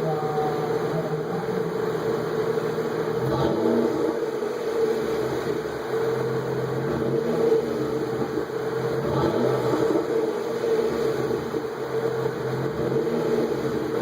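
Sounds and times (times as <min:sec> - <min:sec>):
car exhaust idling: 0:00.0 - 0:14.0.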